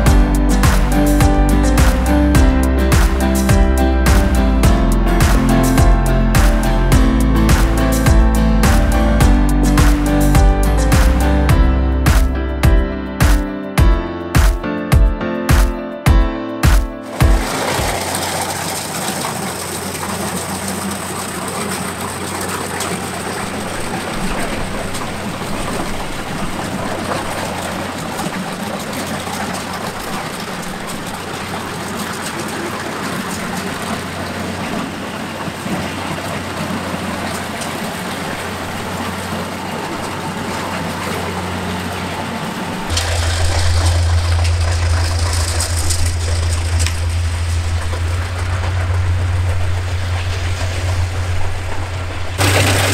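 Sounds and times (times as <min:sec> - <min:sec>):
farm machine engine running: 0:00.0 - 0:12.8, 0:17.0 - 0:52.9.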